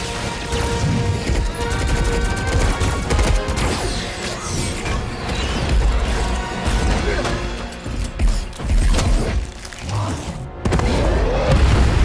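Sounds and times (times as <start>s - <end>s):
orchestral film music: 0.0s - 12.0s.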